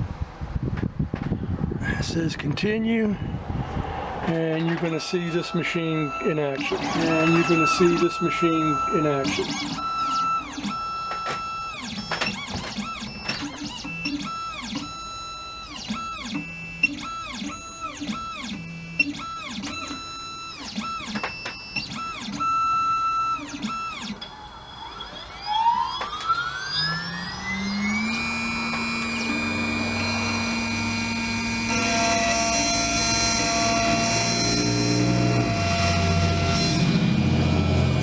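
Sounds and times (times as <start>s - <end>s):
stepper motors whining: 2.0s - 38.0s
cutter spindle whine: 4.2s - 38.0s.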